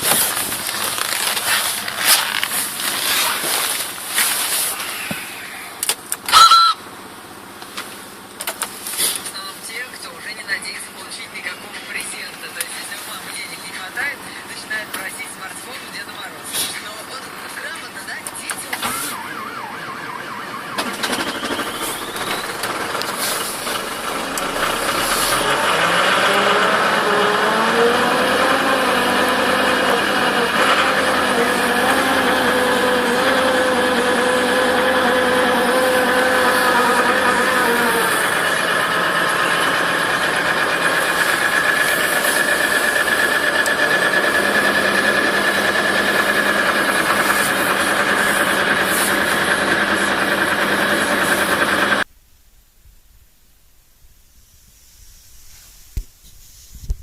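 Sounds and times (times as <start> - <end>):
diesel engine idling: 0.0 - 52.1.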